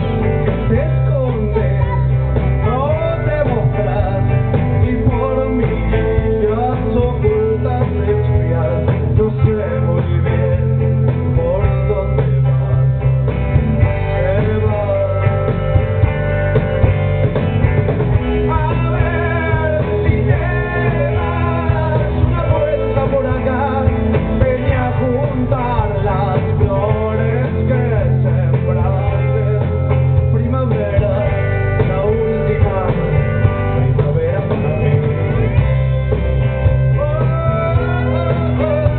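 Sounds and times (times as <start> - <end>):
person singing: 0.0 - 13.0, 13.8 - 15.8, 18.2 - 38.9
live rock band playing: 0.0 - 38.9.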